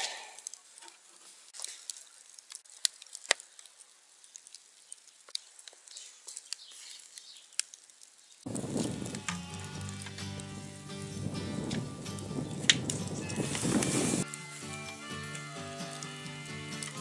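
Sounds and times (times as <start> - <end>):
charcoal crackling and popping: 0.0 - 17.0.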